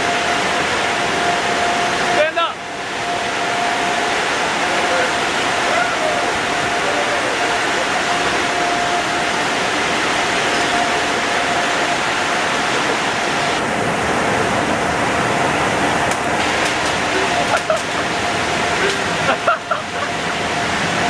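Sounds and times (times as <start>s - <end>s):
blower dryer rushing air: 0.0s - 21.0s
steady whine: 0.0s - 21.0s.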